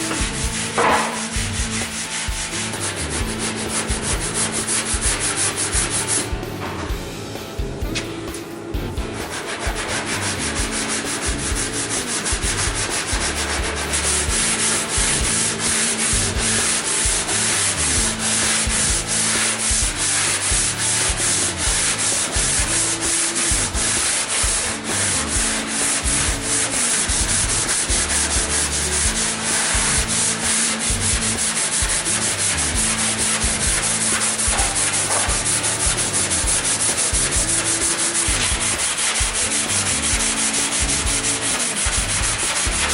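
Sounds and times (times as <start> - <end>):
sanding car body panel: 0.0 - 6.9, 9.0 - 42.9.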